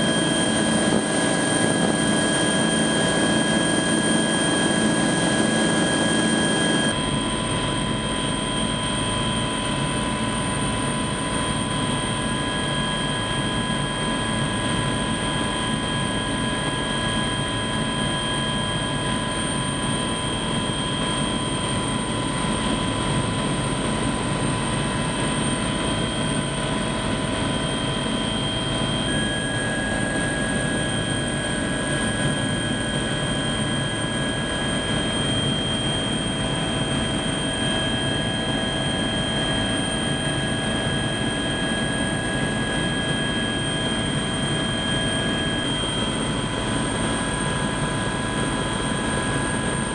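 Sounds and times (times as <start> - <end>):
helicopter engine and rotor drone: 0.0 - 49.9
high-pitched whines: 0.0 - 49.9.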